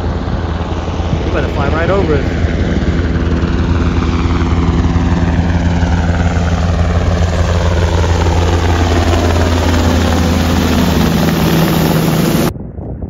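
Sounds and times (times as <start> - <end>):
helicopter rotor and engine drone: 0.0 - 12.8.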